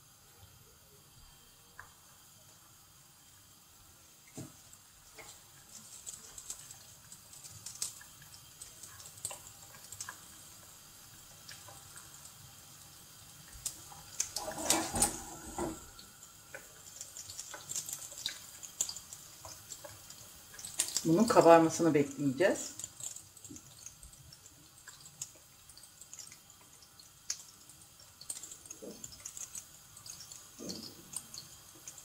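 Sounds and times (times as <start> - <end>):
pastry sizzling in hot oil: 0.0 - 32.0.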